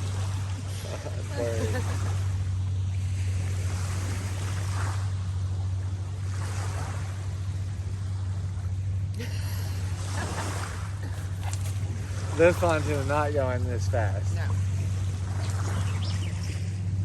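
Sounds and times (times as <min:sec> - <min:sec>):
boat motor drone: 0:00.0 - 0:17.0
rushing water: 0:00.0 - 0:17.0
wind: 0:00.0 - 0:17.0.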